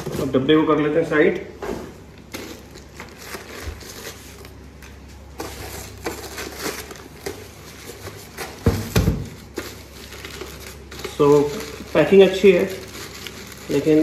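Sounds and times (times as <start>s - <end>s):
plastic bag crinkling: 2.2s - 14.0s.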